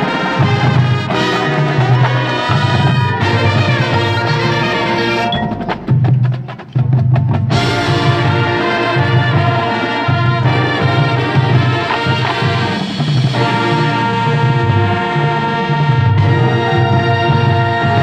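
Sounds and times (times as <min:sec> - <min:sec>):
percussion strikes: 0:00.0 - 0:15.4
marching band playing: 0:00.0 - 0:18.0.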